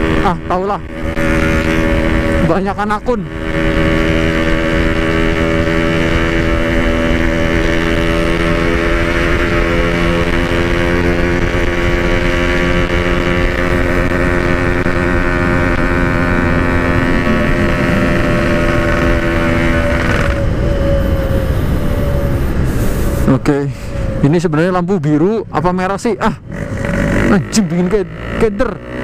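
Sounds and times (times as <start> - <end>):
wind on microphone: 0.0 - 24.8
motorcycle engine cruising: 0.0 - 29.0.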